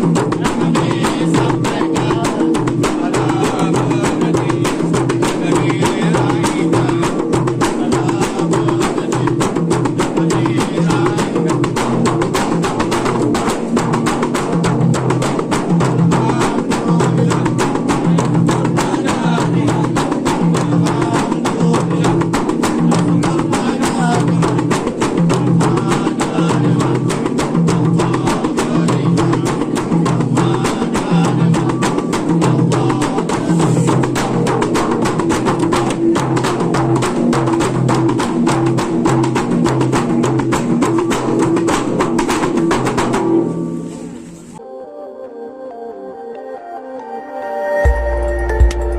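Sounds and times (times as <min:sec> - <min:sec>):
frame drums beating fast rhythm: 0:00.0 - 0:43.8.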